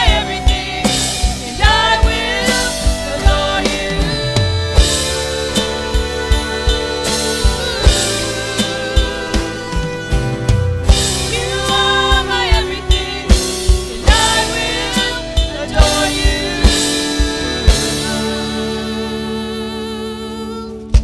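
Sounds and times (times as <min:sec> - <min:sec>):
drum kit beat: 0:00.0 - 0:19.4
person singing: 0:00.0 - 0:21.0
worship band playing: 0:00.0 - 0:21.0.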